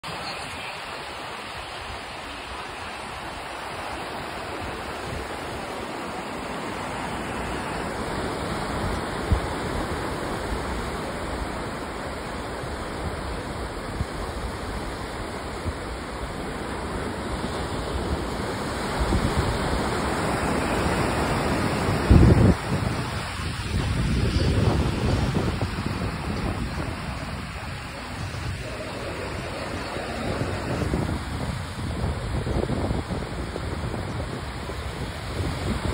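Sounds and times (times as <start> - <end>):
waves washing up a sand beach: 0.0 - 35.9
wind gusting on microphone: 1.0 - 35.9.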